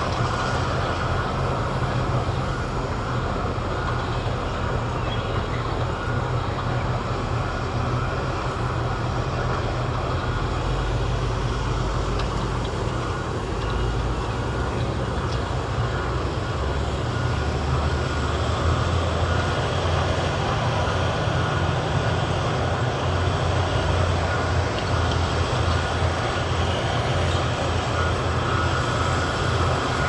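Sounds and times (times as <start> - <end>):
diesel construction machinery running: 0.0 - 30.0.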